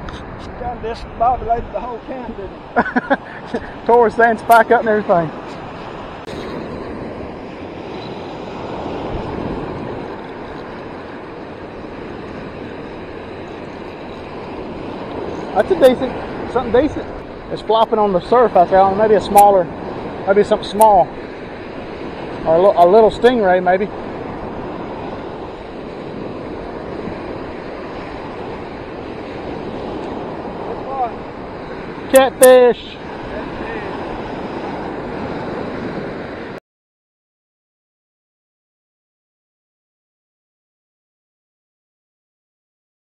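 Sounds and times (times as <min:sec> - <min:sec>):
surf washing onto beach: 0:00.0 - 0:36.6.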